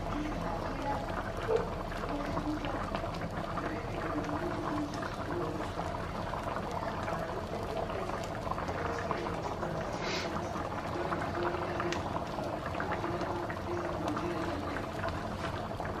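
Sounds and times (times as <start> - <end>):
beans boiling with bubbling pops: 0.0 - 16.0.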